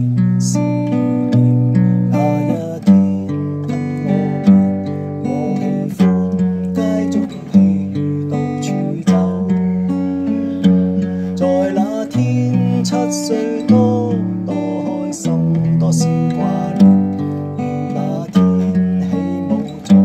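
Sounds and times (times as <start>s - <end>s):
fingerpicked acoustic guitar: 0.0s - 20.0s.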